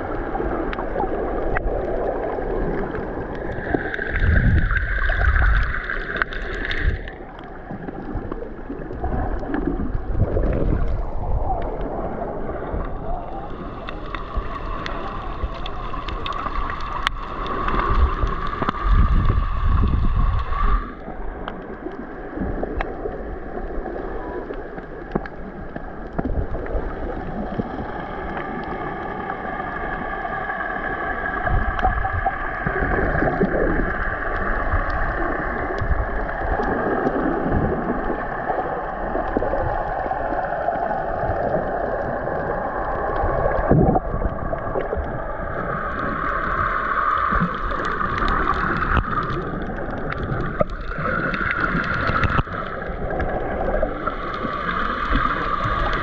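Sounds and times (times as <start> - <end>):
muffled underwater water churning: 0.0 - 56.0.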